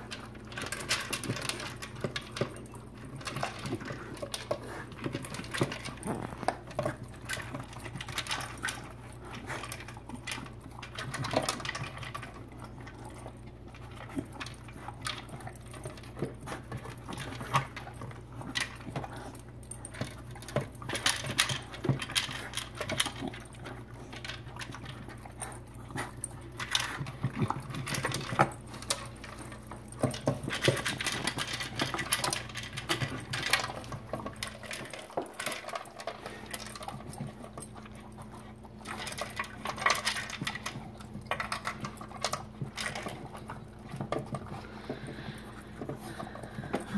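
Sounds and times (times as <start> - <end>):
food rattling in plastic bowls: 0.0 - 19.1, 26.3 - 46.9
dogs licking and chewing: 0.0 - 46.9.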